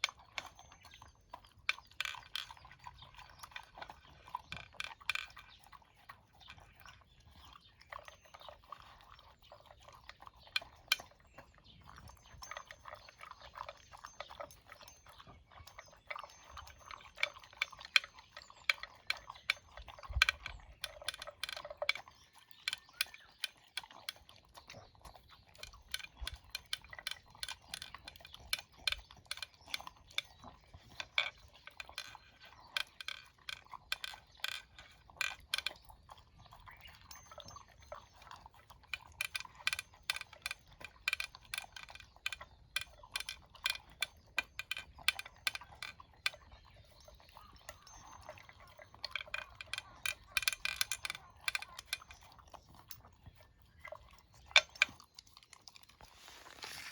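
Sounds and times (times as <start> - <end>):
pet crunching dry food: 0.0 - 56.9.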